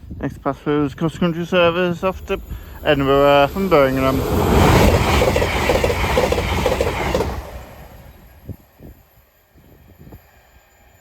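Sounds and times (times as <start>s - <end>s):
train wheels rushing on rails: 1.3s - 11.0s.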